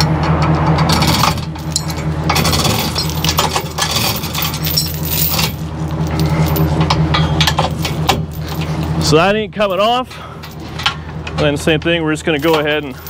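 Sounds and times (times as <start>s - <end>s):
steady low hum: 0.0s - 13.0s
steel chain clinking and rattling: 0.9s - 10.9s, 12.2s - 13.0s.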